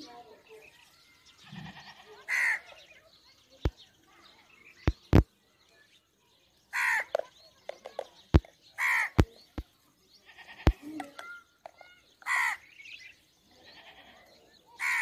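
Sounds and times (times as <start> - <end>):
harsh bird calls: 0.0 - 15.0.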